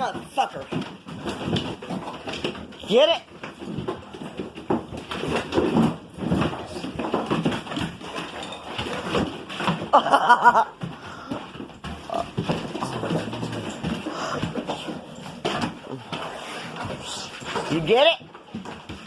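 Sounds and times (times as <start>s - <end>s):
dogs scuffling: 0.0s - 19.0s
knocks and scrabbling: 0.0s - 19.0s.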